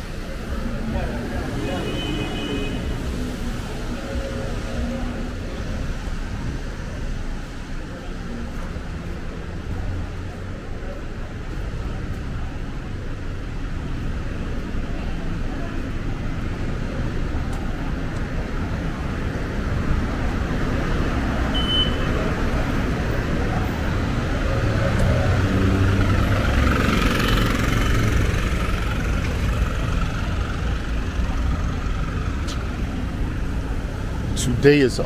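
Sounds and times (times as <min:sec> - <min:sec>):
city street traffic: 0:00.0 - 0:35.0.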